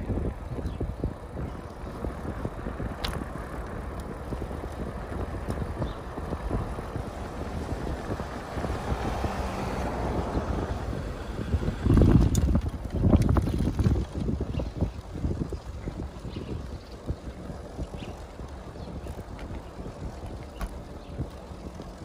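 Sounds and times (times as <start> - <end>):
bicycle rumbling on asphalt: 0.0 - 22.0
wind buffeting microphone: 0.0 - 22.0.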